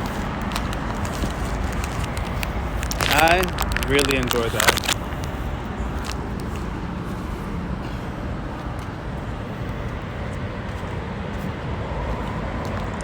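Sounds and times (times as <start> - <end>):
rumble of road traffic: 0.0 - 13.0.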